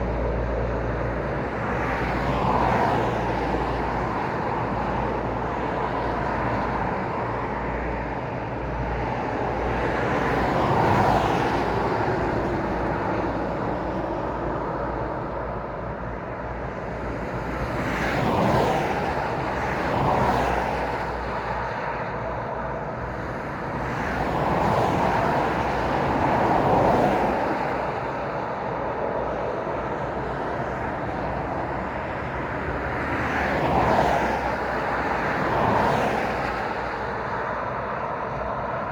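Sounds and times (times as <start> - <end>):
cars passing: 0.0 - 38.9.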